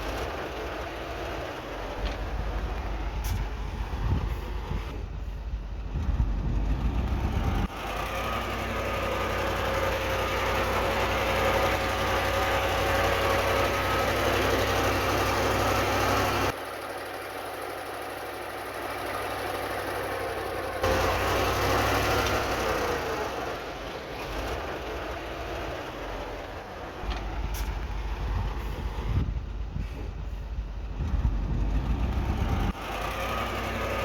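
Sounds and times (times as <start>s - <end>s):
heavy machinery diesel engine: 0.0s - 34.0s.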